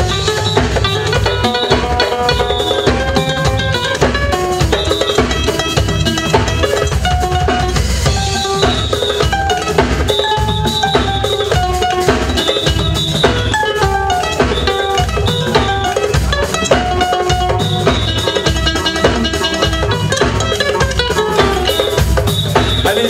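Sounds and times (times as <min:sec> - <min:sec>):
band playing instrumental music: 0:00.0 - 0:23.0
drum kit beat: 0:00.0 - 0:23.0.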